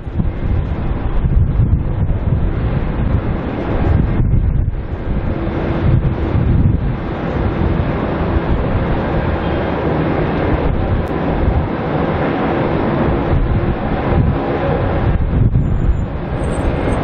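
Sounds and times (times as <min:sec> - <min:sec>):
jet airliner engines: 0:00.0 - 0:17.0
wind buffeting microphone: 0:00.0 - 0:17.0.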